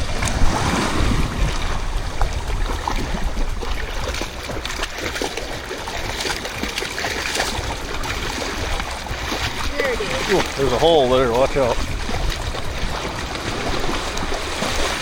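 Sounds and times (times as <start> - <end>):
low rumble of water: 0.0 - 15.0
water sloshing around wading person: 0.0 - 15.0
wind buffeting microphone: 0.0 - 15.0.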